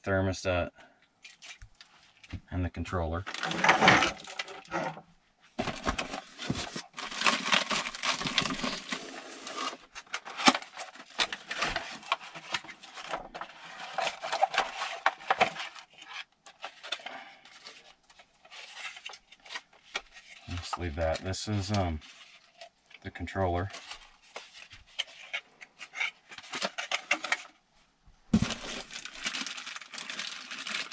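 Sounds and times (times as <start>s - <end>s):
cardboard and paper rustling: 3.2s - 27.6s, 28.3s - 30.9s.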